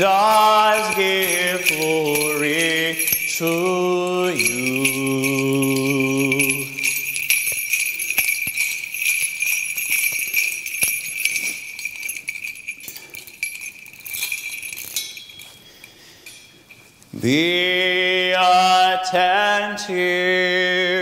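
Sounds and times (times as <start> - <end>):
chains clinking: 0.0 - 17.8
small bells jingling: 0.0 - 20.6.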